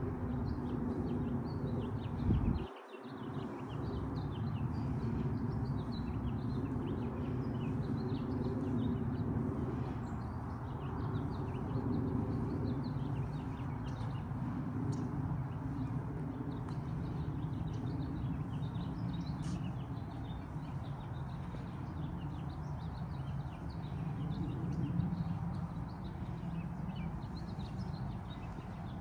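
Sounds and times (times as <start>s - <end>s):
small birds chirping: 0.1s - 29.0s.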